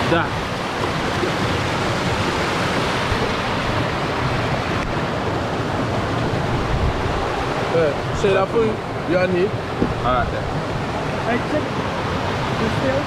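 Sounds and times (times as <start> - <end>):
flowing water rushing: 0.0 - 13.0
wind buffeting microphone: 0.0 - 13.0.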